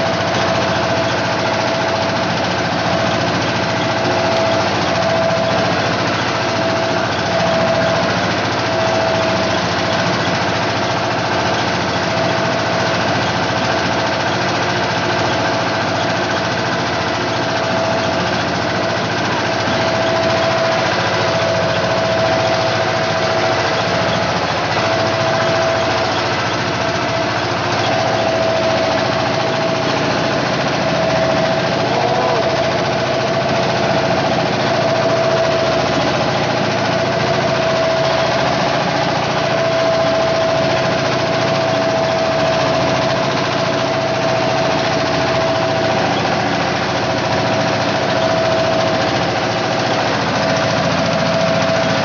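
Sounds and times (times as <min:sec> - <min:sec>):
boat engine running: 0:00.0 - 0:52.0.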